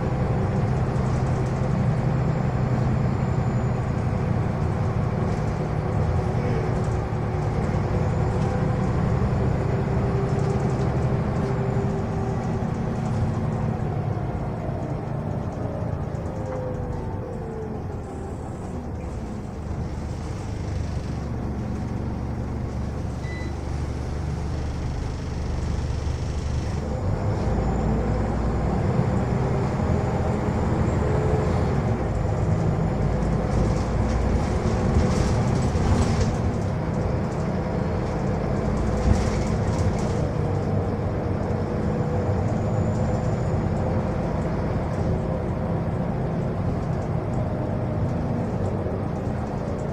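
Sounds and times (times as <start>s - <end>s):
bus engine running: 0.0s - 49.9s
road noise: 0.0s - 49.9s.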